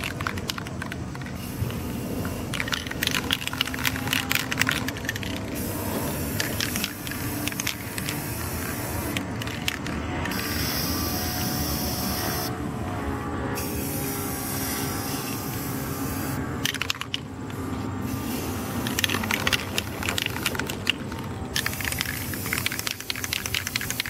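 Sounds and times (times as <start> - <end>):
spray can spits and clicks: 0.0 - 11.7, 15.1 - 24.0
spray can hissing: 0.0 - 12.5, 13.6 - 24.0.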